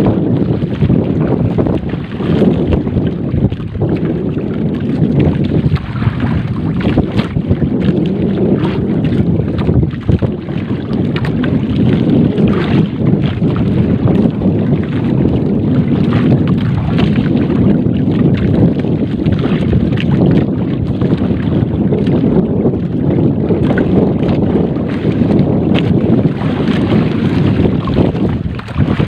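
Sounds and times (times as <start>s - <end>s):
boat engine low rumble: 0.0s - 29.0s
wind buffeting microphone: 0.0s - 29.0s.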